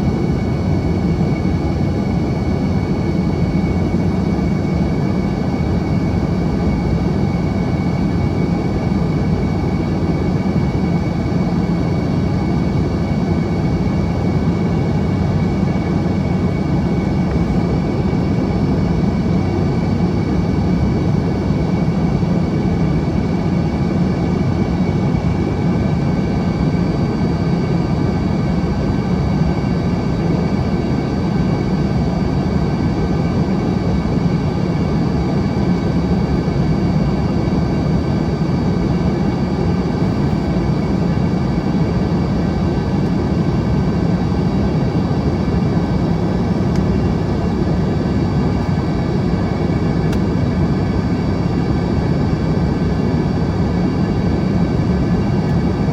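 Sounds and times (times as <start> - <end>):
airflow and jet engine noise: 0.0 - 55.9.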